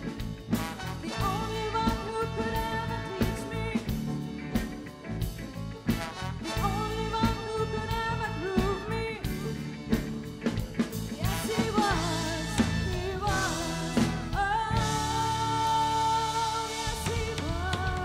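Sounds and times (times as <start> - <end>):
horn section: 0.0 - 4.2, 5.8 - 10.2, 11.1 - 18.0
drum kit: 0.0 - 18.0
electric guitar: 0.0 - 18.0
woman singing: 0.5 - 4.7, 6.3 - 18.0.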